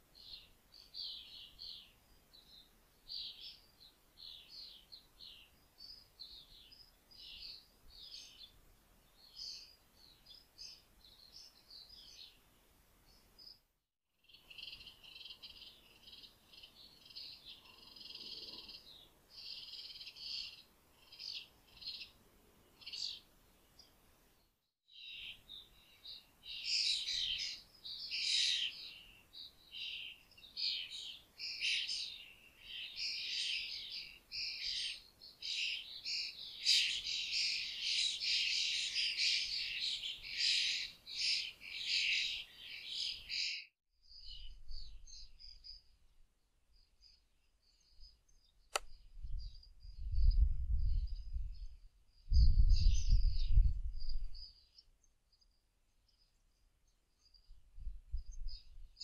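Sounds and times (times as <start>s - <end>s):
flock of small birds chirping: 0.2s - 12.5s, 14.2s - 24.0s, 24.9s - 45.9s, 46.8s - 57.6s.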